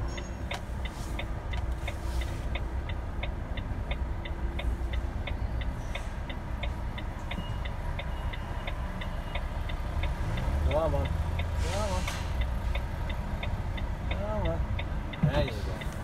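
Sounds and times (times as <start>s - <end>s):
diesel engine idling: 0.0s - 16.0s
turn-signal indicator ticking: 0.0s - 16.0s.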